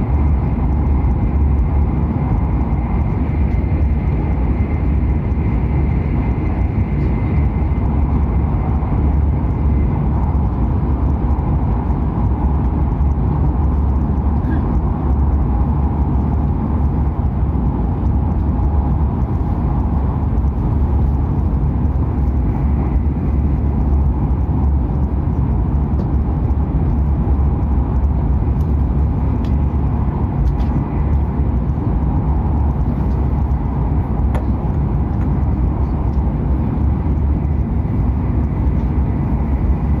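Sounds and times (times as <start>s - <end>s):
train running rumble: 0.0s - 40.0s.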